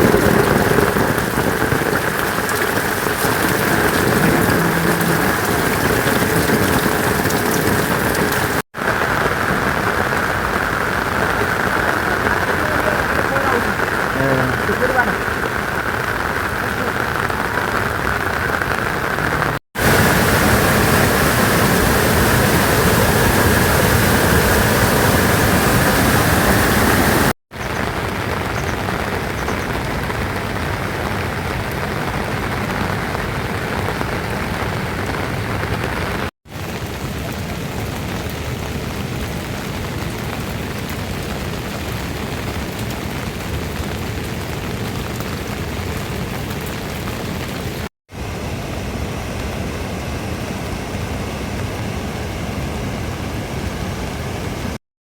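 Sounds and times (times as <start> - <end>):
steady rain falling: 0.0 - 54.8.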